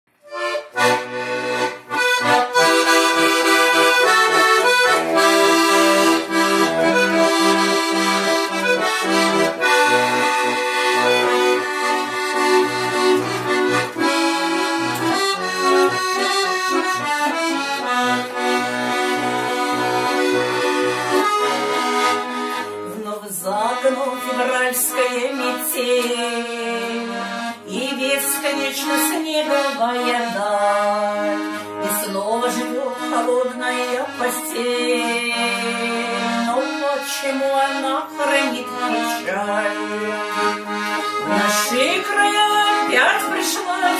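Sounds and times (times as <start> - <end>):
button accordion playing: 0.1 - 43.9.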